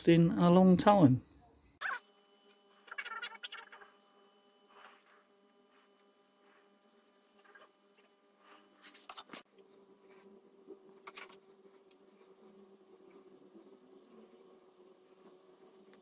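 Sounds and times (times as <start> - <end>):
paintbrush strokes on metal: 2.2 - 16.0.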